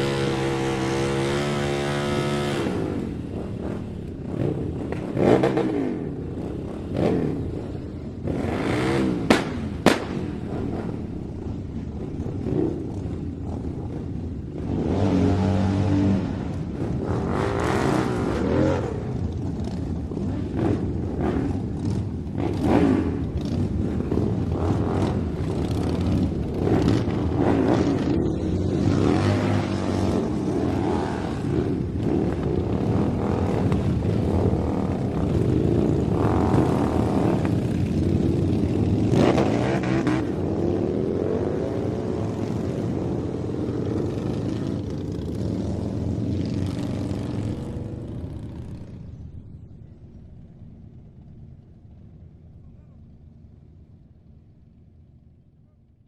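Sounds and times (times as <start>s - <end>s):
motorcycle engine revving: 0.0s - 49.2s.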